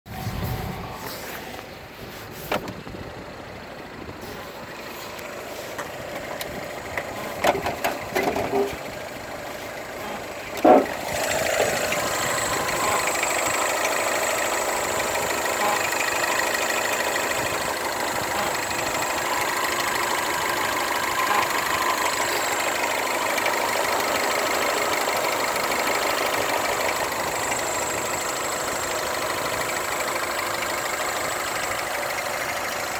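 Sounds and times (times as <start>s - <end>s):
engine starting and idling: 0.1s - 32.9s.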